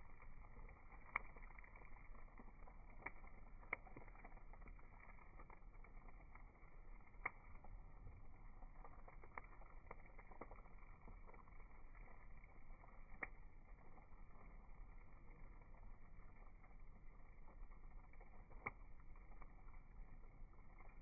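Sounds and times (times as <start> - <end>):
firewood crackling: 0.0 - 21.0.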